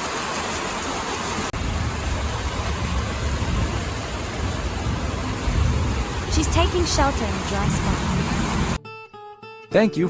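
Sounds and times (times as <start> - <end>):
heavy rain falling: 0.0 - 8.8.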